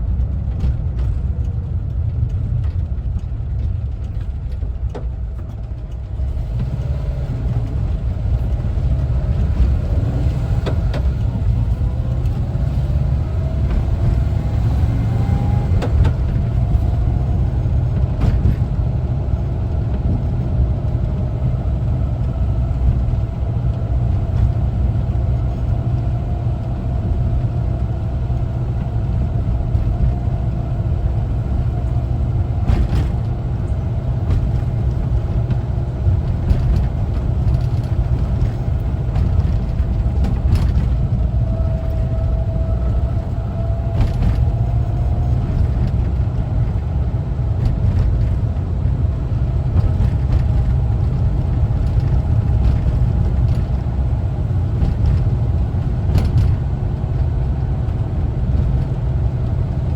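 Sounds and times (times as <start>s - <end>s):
van engine rumbling on road: 0.0s - 59.9s.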